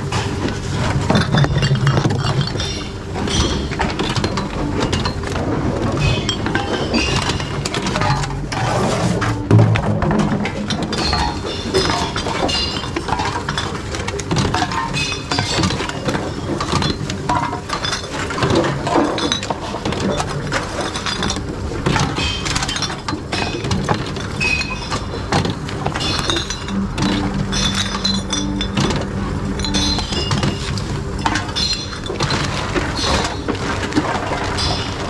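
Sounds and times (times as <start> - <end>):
bottles and cans clinking: 0.0 - 35.0.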